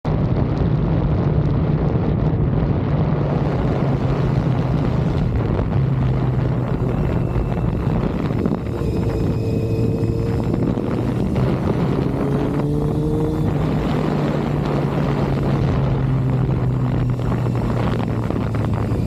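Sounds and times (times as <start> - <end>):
wind rushing over microphone: 0.0 - 19.0
motorcycle engine running: 0.1 - 19.0.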